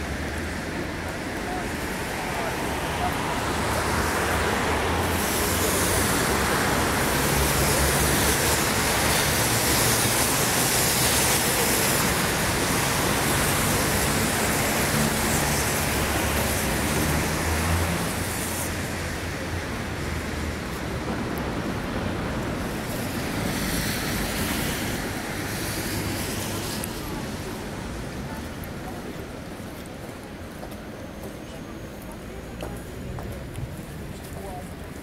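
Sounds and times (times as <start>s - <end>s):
steady rain: 0.0s - 31.0s
tyres hissing on wet road: 0.0s - 35.0s.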